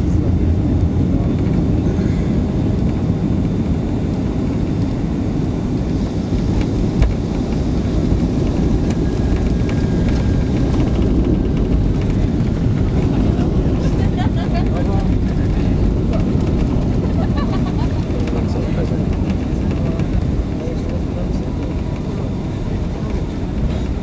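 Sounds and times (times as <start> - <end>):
airplane cabin engine rumble: 0.0 - 24.0.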